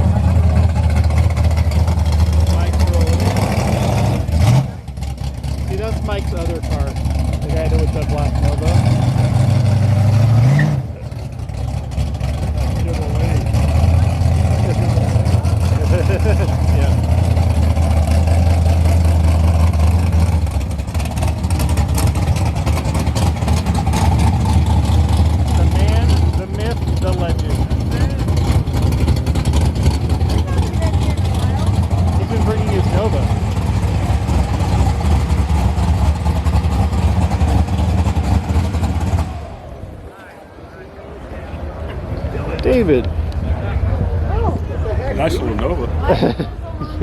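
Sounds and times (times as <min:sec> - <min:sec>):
car engine running: 0:00.0 - 0:41.3, 0:42.0 - 0:47.0.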